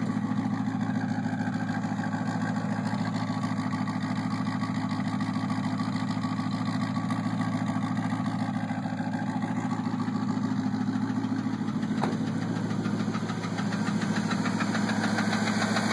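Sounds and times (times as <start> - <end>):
engine idling with ticking: 0.0 - 15.9.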